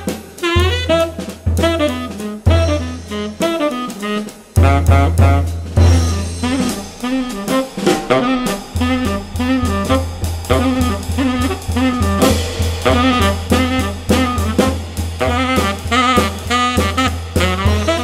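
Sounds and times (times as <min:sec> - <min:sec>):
drum kit beat: 0:00.0 - 0:18.0
saxophone: 0:00.0 - 0:18.0.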